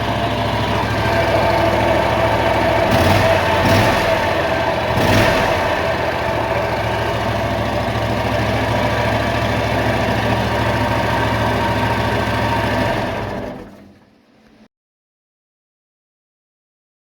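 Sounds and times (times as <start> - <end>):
mower engine running: 0.0 - 14.6.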